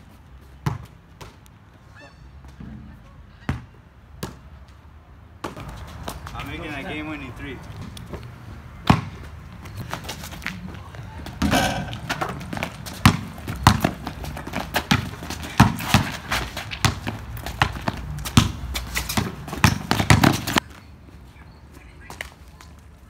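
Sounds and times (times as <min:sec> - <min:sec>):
basketball bouncing on asphalt: 0:00.3 - 0:01.8, 0:02.4 - 0:04.7, 0:05.4 - 0:06.9, 0:07.6 - 0:20.8.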